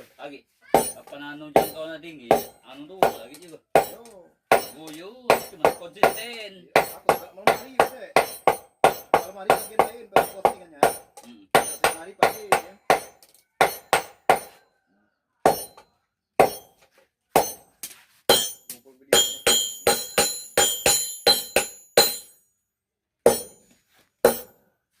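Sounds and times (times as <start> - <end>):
hammer striking metal on anvil: 0.8 - 14.6, 15.5 - 15.8, 16.4 - 16.8, 17.4 - 22.4, 23.3 - 24.6.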